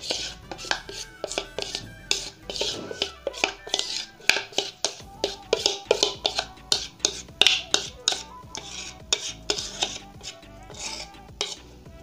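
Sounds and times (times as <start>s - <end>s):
metal spoon scraping steel bowl: 0.0s - 12.0s.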